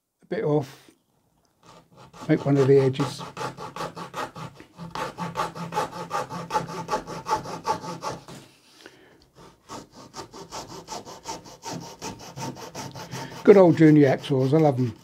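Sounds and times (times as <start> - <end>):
hacksaw sawing: 1.6 - 8.4, 9.3 - 15.0.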